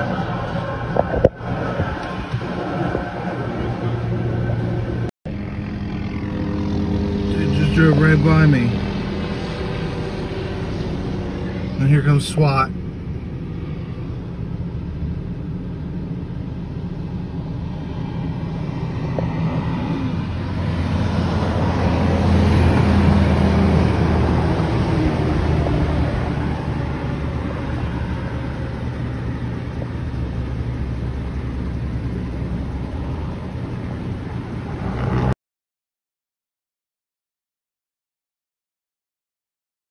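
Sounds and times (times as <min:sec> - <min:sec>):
heavy vehicles driving past: 0:00.0 - 0:35.4.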